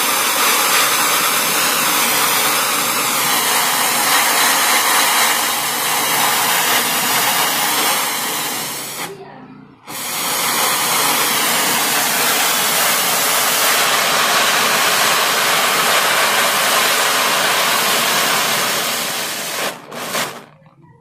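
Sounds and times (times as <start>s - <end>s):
gas torch flame hissing: 0.0s - 9.2s, 9.8s - 20.6s.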